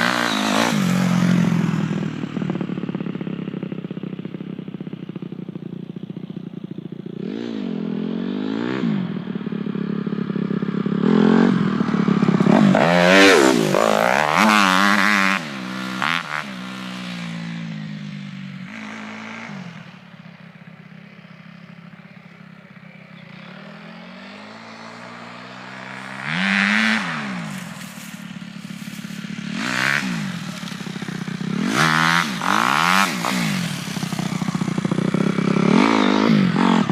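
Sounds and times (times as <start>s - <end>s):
dirt bike engine revving: 0.0s - 4.3s, 7.0s - 36.9s.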